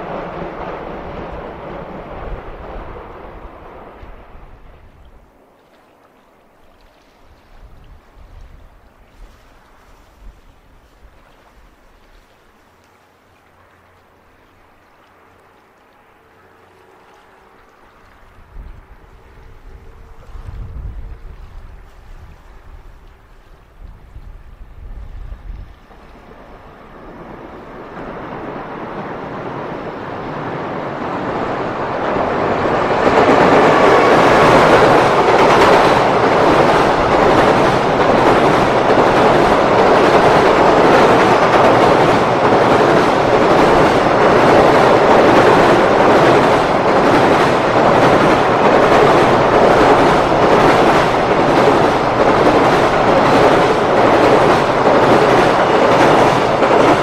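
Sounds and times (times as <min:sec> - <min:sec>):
freight train rolling over bridge: 0:00.0 - 0:05.4, 0:12.5 - 0:57.0.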